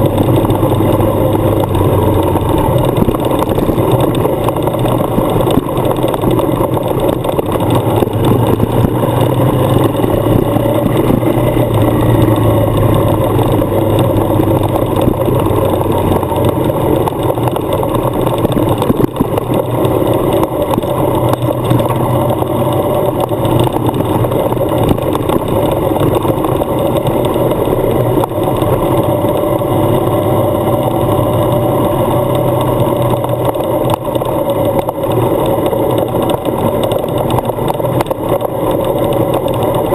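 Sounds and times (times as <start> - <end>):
motorcycle engine running: 0.0 - 39.9
tyres on gravel: 0.0 - 39.9
wind: 0.0 - 39.9.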